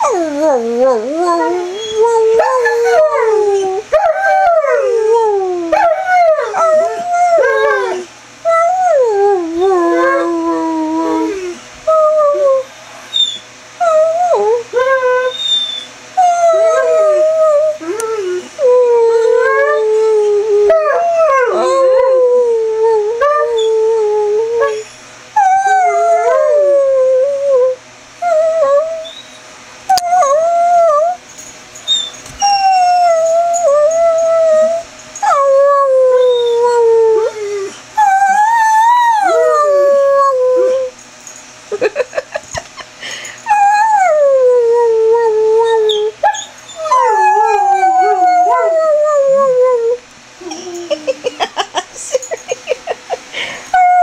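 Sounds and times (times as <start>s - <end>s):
dog howling and whining: 0.0s - 41.0s, 43.4s - 51.6s, 53.7s - 54.0s.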